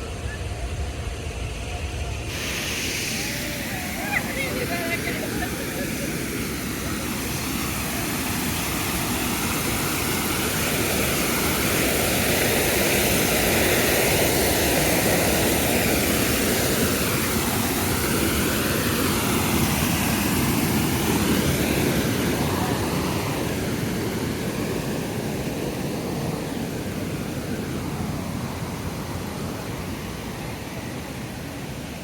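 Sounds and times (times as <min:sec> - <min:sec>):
falling water rushing: 0:02.0 - 0:32.0.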